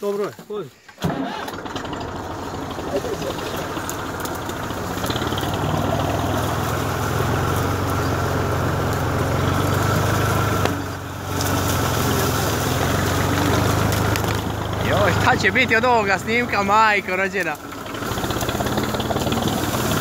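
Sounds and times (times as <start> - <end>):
tractor pushing through brush: 0.0 - 20.0
tractor engine running: 0.8 - 20.0.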